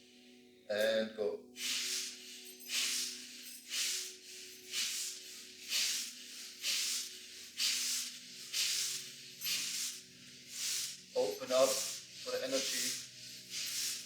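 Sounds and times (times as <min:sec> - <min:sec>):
soft music drone: 0:00.0 - 0:14.0
forceful rhythmic breathing: 0:01.6 - 0:14.0.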